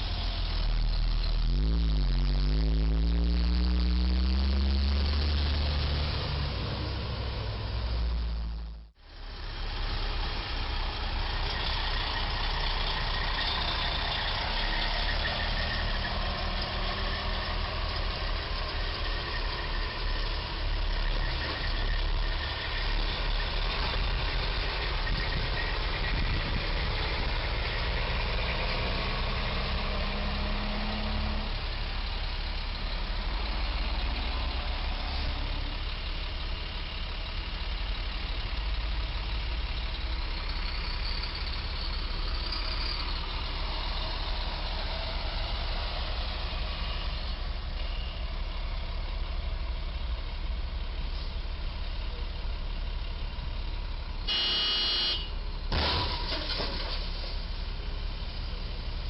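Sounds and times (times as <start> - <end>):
engine note climbing: 0.0 - 56.3
vehicle engines idling: 0.0 - 59.0.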